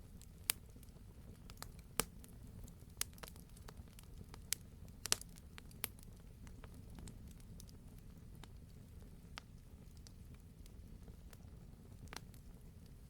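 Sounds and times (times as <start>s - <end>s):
fire crackles and pops: 0.0s - 13.0s
low rumble of flames: 0.0s - 13.0s.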